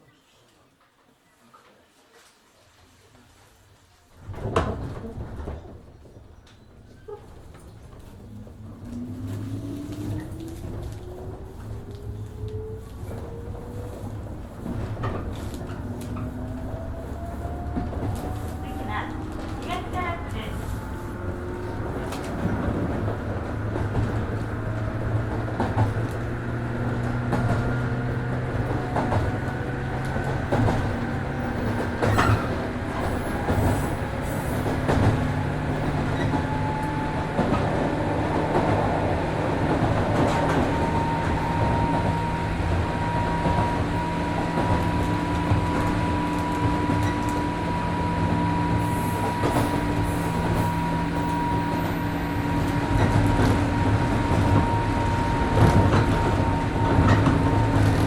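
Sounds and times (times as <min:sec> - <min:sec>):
train motors and gears humming: 0:04.2 - 0:58.0.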